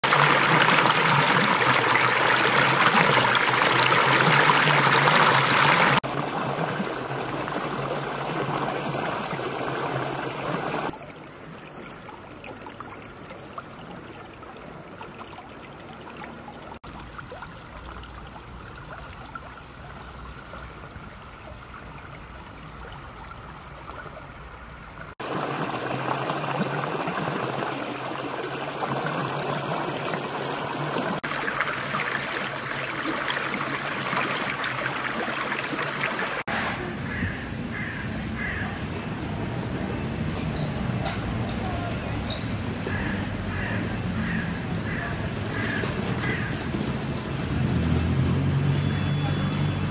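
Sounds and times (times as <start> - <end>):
stream splashing and trickling: 0.0 - 49.9.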